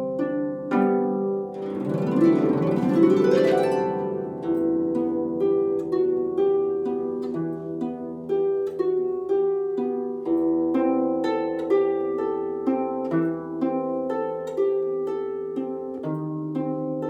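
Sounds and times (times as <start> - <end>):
harp melody: 0.0 - 17.0.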